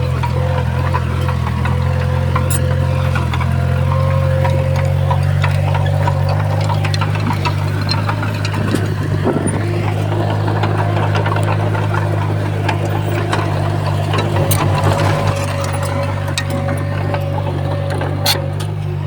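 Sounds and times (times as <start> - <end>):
bulldozer diesel engine running: 0.0 - 19.0
sharp clicks and clanks: 0.0 - 19.0.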